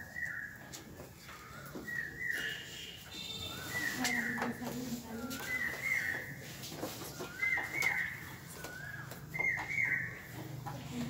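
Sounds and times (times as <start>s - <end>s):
bird calling: 0.0s - 10.5s.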